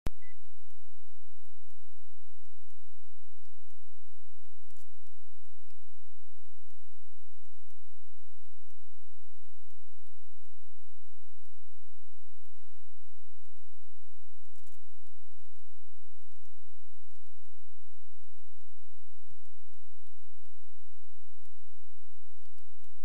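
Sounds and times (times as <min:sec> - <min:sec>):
low steady hiss: 0:00.2 - 0:23.0.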